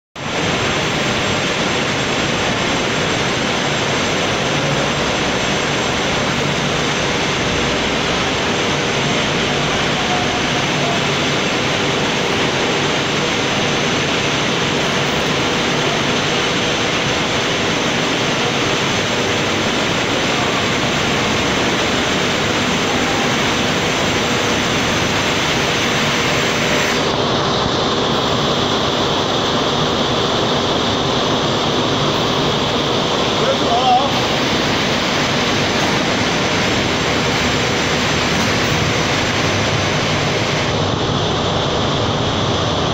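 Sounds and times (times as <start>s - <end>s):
biomass burner plant roaring: 0.2s - 42.9s.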